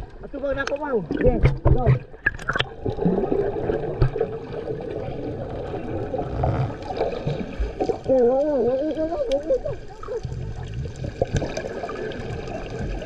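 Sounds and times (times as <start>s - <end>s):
underwater swirling and bubbling: 0.0s - 13.0s
water splashes: 0.0s - 13.0s.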